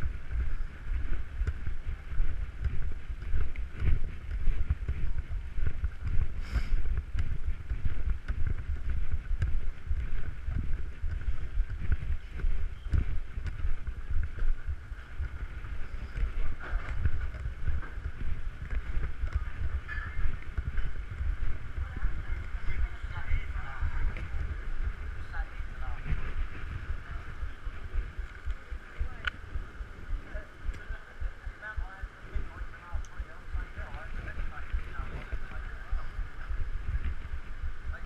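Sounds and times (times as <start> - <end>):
low uneven rumble: 0.0 - 38.0
steady background hum: 0.0 - 38.0.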